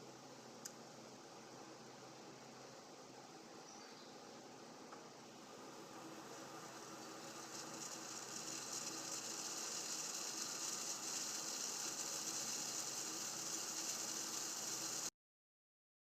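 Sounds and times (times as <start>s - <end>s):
pot crackling hiss heating: 0.0s - 15.1s.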